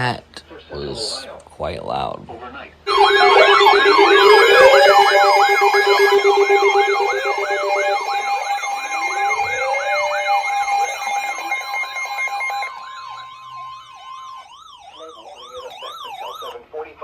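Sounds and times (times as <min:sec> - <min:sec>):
steady alarm tones: 0:02.9 - 0:16.5
electronic siren wail: 0:02.9 - 0:16.6.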